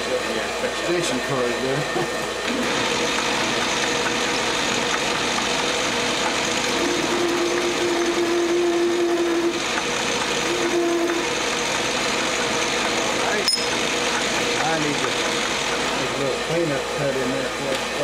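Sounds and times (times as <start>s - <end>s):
drill cutting whine: 0.0s - 17.6s
metal lathe running: 0.0s - 18.0s.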